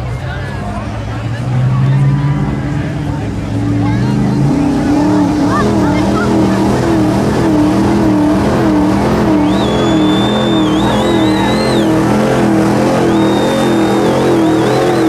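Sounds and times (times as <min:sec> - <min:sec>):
pickup truck engine wavering: 0:00.0 - 0:15.0.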